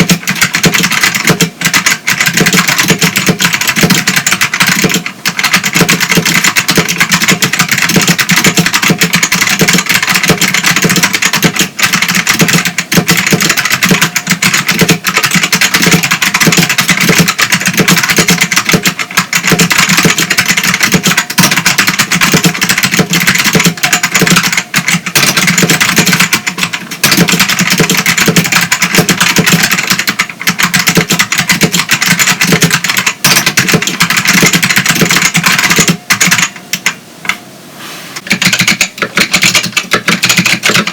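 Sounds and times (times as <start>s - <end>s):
mechanical keyboard typing: 0.0s - 37.0s, 38.2s - 40.9s.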